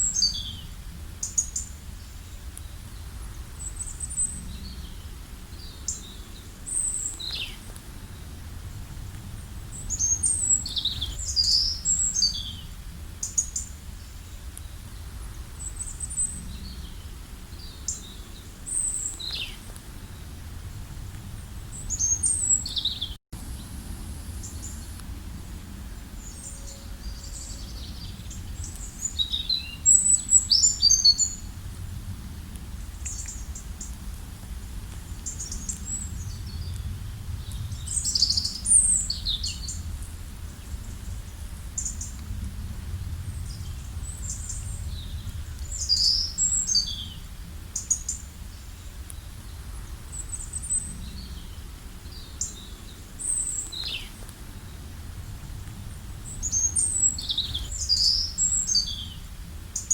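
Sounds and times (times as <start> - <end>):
low background rumble: 0.0 - 59.8
small songbirds chirping: 0.0 - 59.9.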